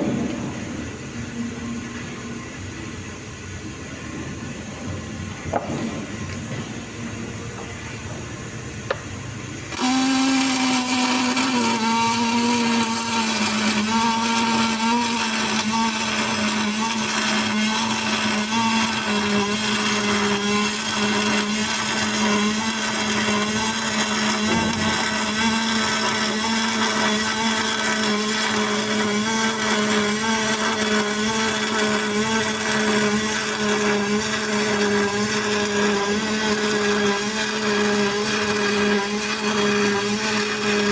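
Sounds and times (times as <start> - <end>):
welding arc buzzing hum: 0.0 - 40.9.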